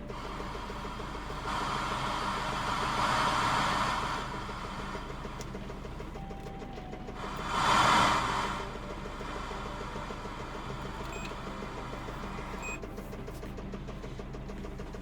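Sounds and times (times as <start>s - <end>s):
engine idling with rapid knock: 0.0s - 15.0s.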